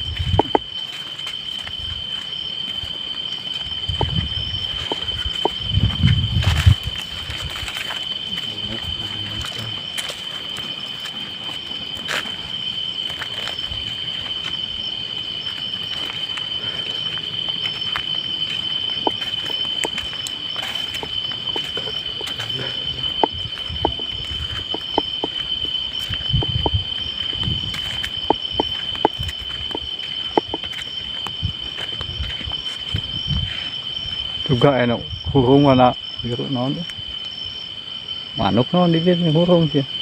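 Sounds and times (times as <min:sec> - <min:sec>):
crickets trilling: 0:00.0 - 0:40.0.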